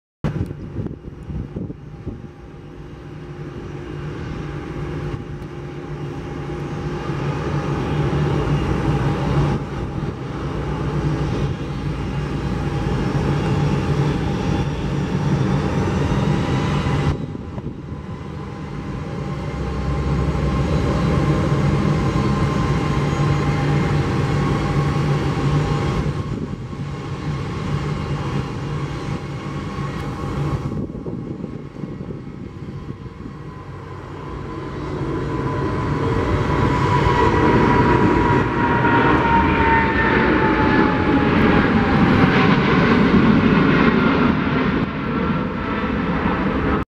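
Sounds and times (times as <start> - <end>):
jet engine roar with whine: 0.3 - 46.9.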